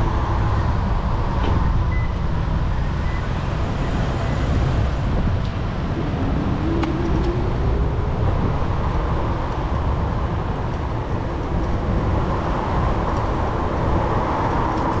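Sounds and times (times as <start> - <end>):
city traffic: 0.0 - 15.0
low rumble on microphone: 0.0 - 15.0.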